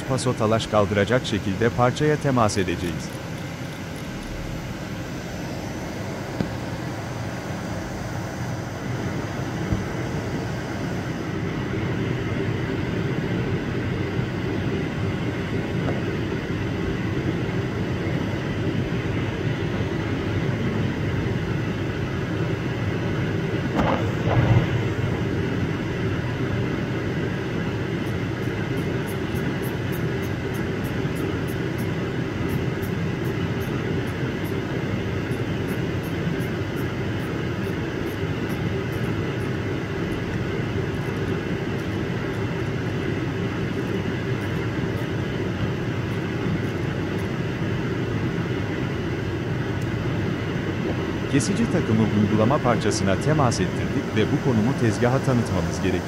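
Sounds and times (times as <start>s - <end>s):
lathe machine hum: 0.0s - 56.0s.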